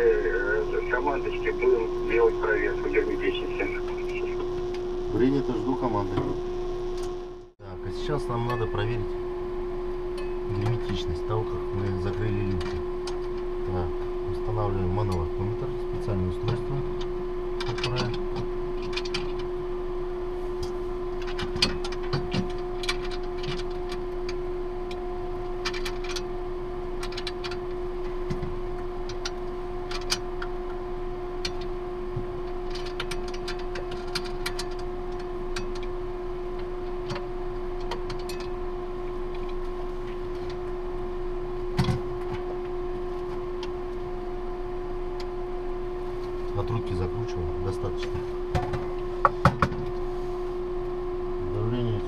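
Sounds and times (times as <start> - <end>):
machinery hum: 0.0 - 52.0.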